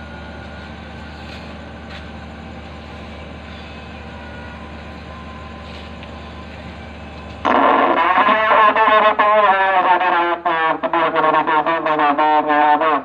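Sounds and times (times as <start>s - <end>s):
train diesel engine idling: 0.0s - 13.0s.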